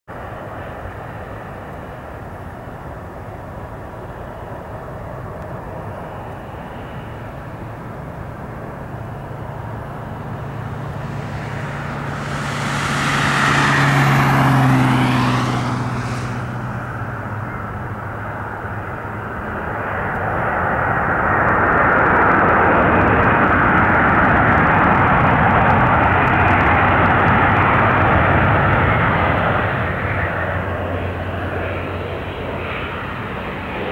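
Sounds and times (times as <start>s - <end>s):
jet airliner engine whine: 0.1s - 33.9s
jet reverse thrust roar: 4.7s - 33.9s.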